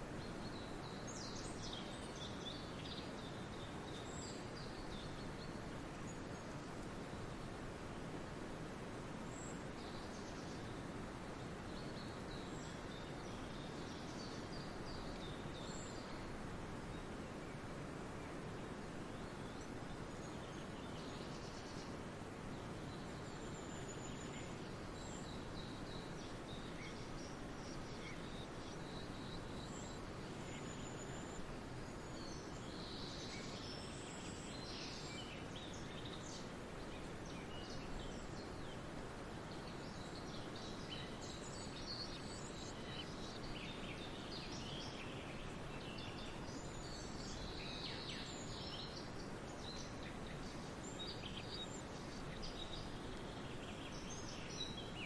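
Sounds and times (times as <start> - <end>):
forest ambience hiss: 0.0 - 55.0
songbirds chirping and trilling: 0.0 - 55.0.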